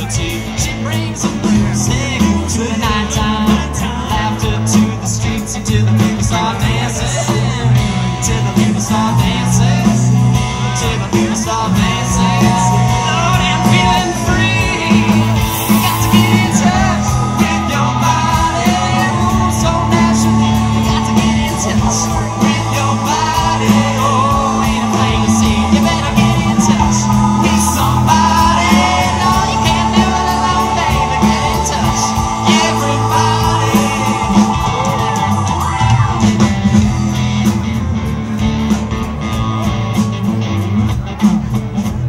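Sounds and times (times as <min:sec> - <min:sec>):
person singing: 0:00.0 - 0:37.2
bass guitar: 0:00.0 - 0:42.0
drum kit: 0:00.0 - 0:42.0
electric guitar: 0:00.0 - 0:42.0
keyboard: 0:00.0 - 0:42.0.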